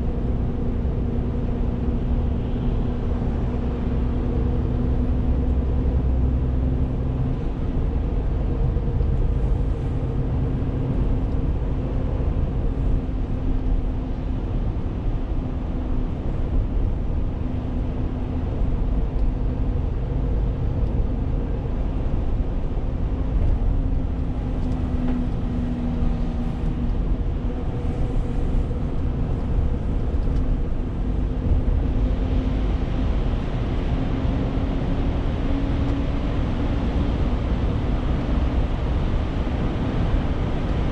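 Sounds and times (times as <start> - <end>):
road noise rumble: 0.0 - 40.9.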